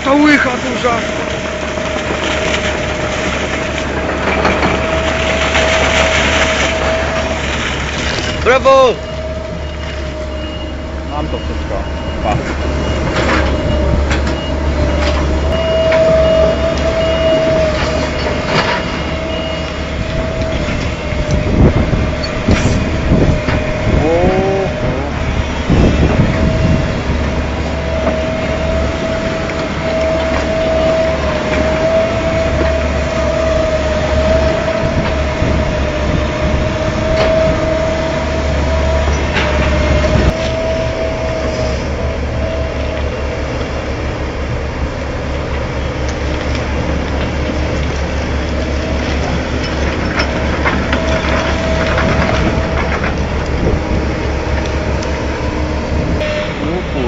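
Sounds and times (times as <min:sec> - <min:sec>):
constant high whine: 0:00.0 - 0:57.0
excavator engine rumble: 0:00.0 - 0:57.0.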